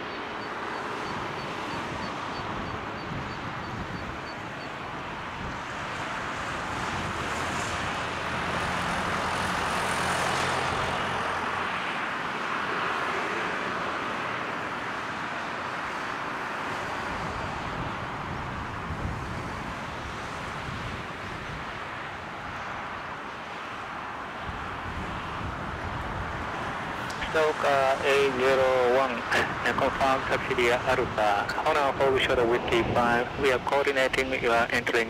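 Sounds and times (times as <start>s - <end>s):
jet engines passing: 0.0s - 35.0s.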